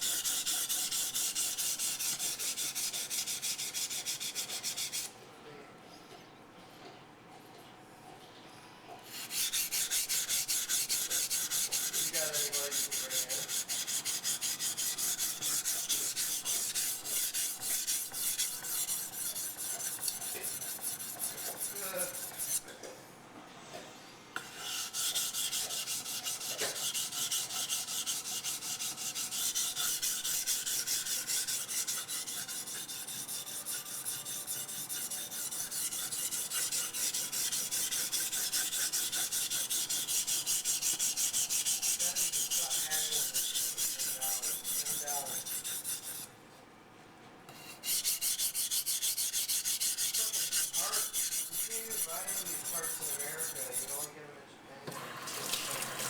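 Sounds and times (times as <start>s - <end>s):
knife scraping on whetstone: 0.0s - 5.1s, 9.1s - 22.7s, 24.4s - 46.3s, 47.5s - 54.2s.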